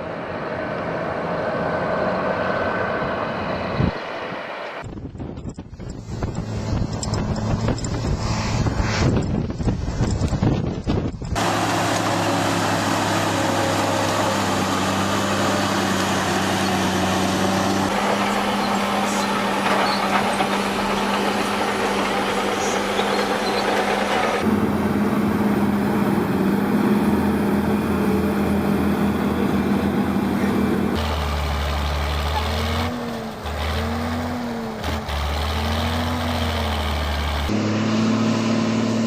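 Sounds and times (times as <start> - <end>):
heavy diesel engines running: 0.0 - 39.0.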